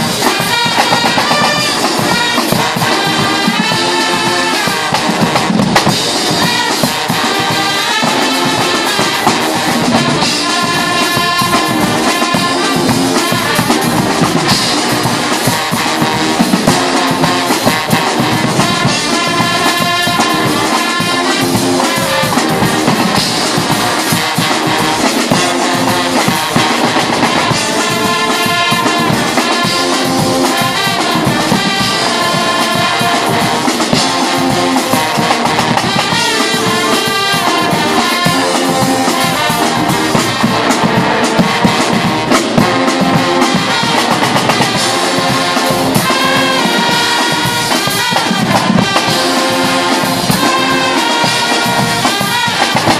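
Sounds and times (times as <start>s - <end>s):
brass instruments playing: 0.0s - 52.9s
marching bass drums: 0.0s - 52.9s
snare drum: 0.0s - 52.9s.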